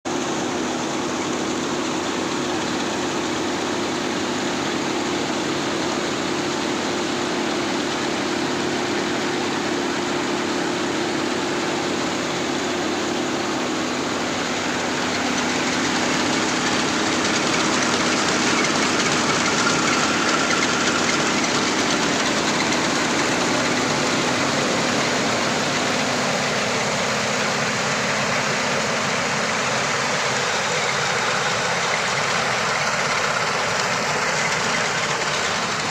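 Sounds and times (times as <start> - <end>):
rice mill mechanical noise: 0.0 - 35.9
low tractor engine hum: 0.1 - 35.9.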